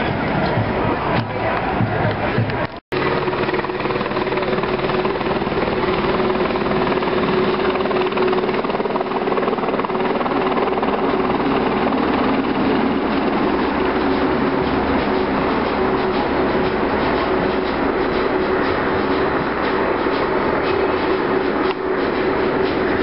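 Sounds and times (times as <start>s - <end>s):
helicopter flying overhead: 0.0s - 23.0s.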